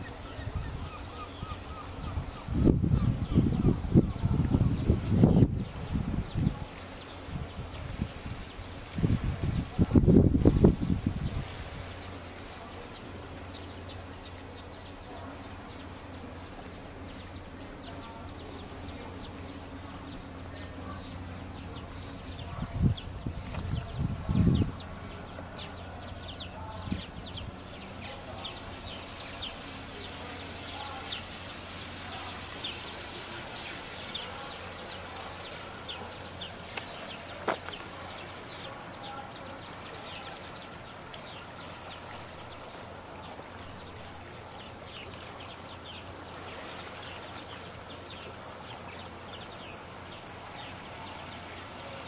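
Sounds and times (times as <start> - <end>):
birds chirping: 0.0 - 52.0
steady outdoor hiss: 0.0 - 52.0.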